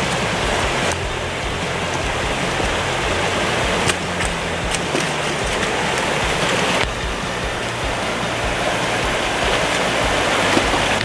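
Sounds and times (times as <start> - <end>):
background music: 0.0 - 11.0
stream rushing over rocks: 0.0 - 11.0.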